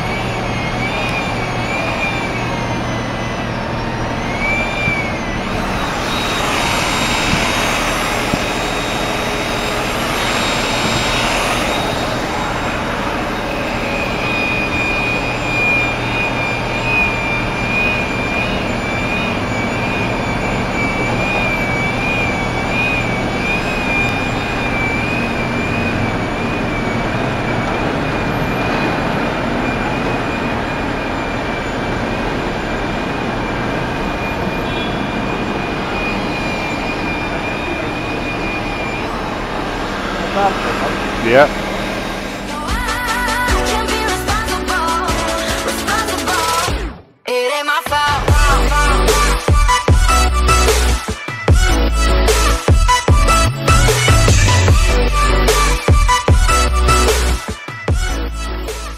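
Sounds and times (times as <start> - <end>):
high wavering whine: 0.0 - 47.0, 48.1 - 58.9
traffic engines and road noise: 0.0 - 47.0, 48.2 - 58.9.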